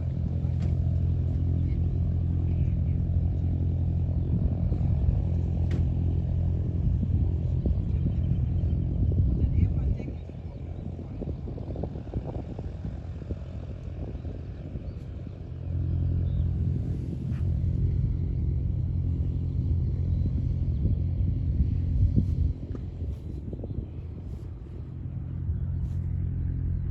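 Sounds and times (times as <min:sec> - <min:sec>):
light aircraft engine droning: 0:00.0 - 0:26.9
low rumble: 0:00.0 - 0:26.9.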